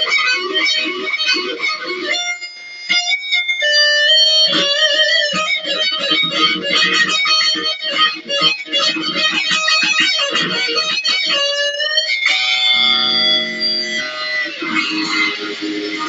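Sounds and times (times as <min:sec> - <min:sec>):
electric guitar solo: 0:00.0 - 0:16.0.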